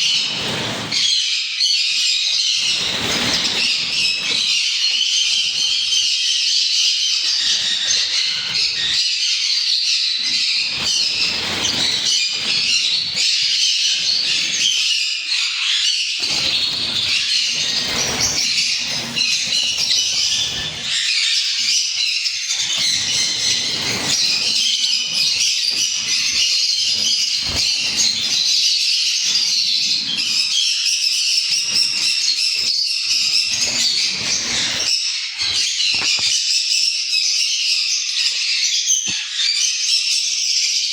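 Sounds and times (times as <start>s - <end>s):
parrots squawking and chirping: 0.0s - 1.3s, 2.5s - 6.3s, 7.1s - 28.6s, 29.2s - 36.5s.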